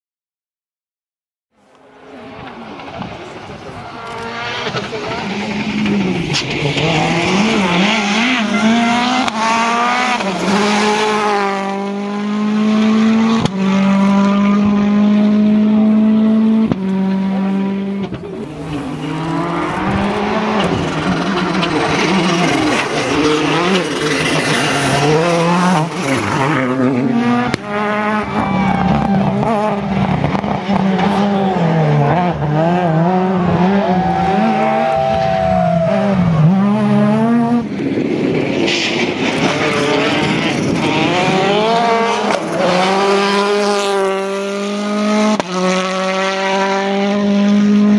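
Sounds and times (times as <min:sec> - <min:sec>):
rally car engines revving: 0:01.6 - 0:47.9.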